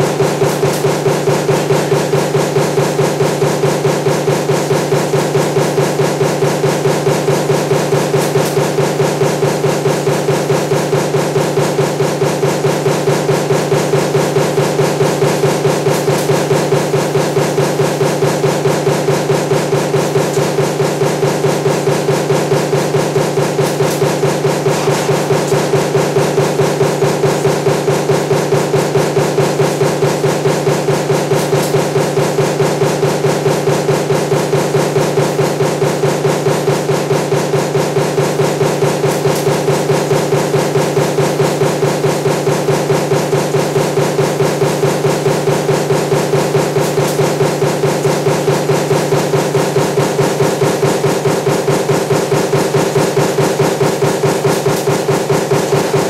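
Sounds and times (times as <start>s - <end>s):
power press stamping: 0.0s - 56.0s.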